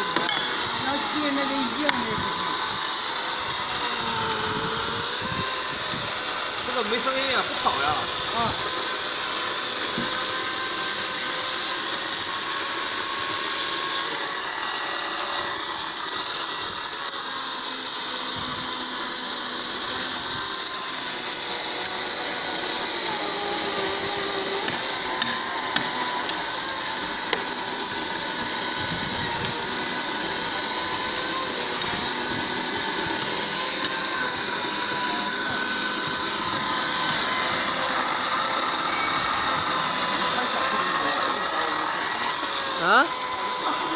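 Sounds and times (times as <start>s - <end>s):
electric chainsaw cutting wood: 0.0s - 43.9s.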